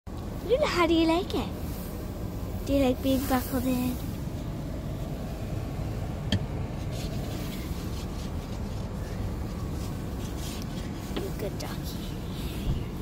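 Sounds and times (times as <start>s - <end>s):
car cabin rumble: 0.1s - 13.0s.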